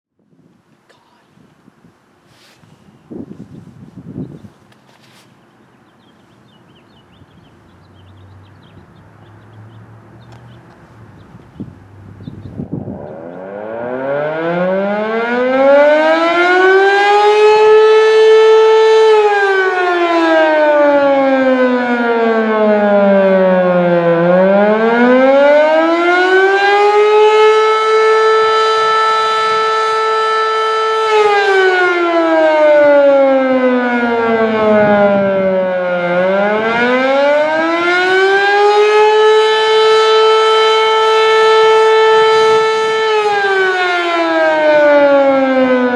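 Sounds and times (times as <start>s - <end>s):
fire siren wailing: 6.9s - 45.9s.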